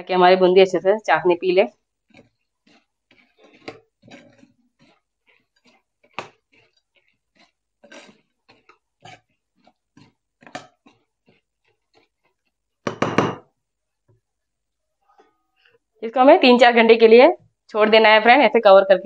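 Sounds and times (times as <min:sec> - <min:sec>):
spoon stirring wet sweets: 0:00.2 - 0:18.2.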